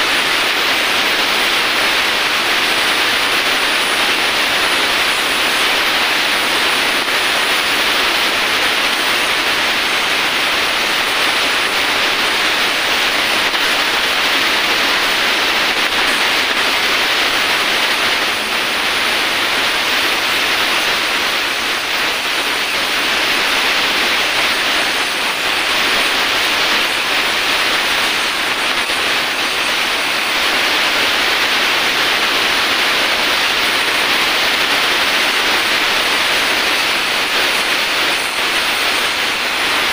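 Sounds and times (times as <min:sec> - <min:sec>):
welding torch hissing: 0:00.0 - 0:39.9.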